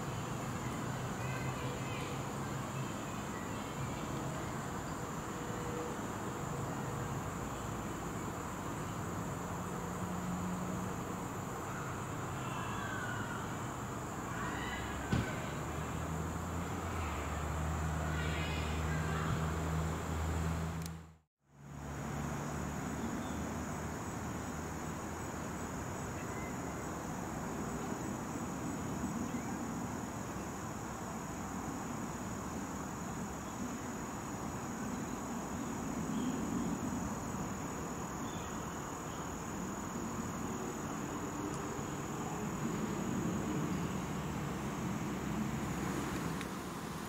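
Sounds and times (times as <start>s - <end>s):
insects trilling: 0.0s - 20.9s, 21.6s - 47.0s.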